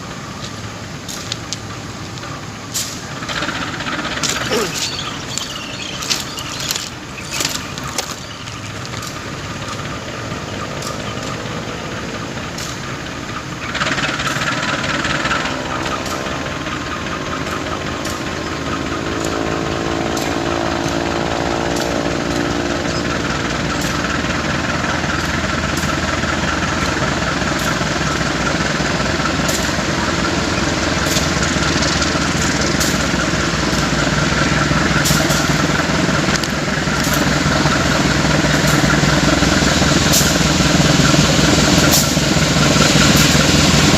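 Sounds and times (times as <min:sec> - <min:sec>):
train engine passing: 0:00.0 - 0:43.9
train rolling noise: 0:00.0 - 0:43.9
wheels clicking over rail joints: 0:00.0 - 0:43.9.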